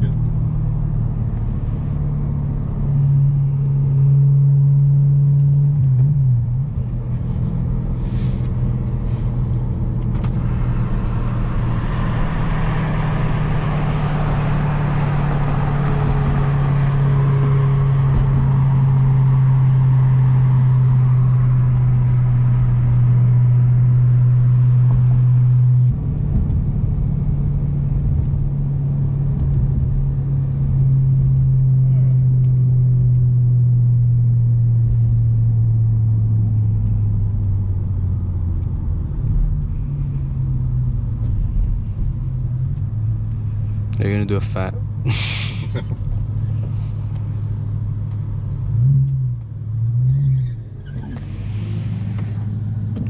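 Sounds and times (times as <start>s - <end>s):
car engine drone in cabin: 0.0s - 53.0s.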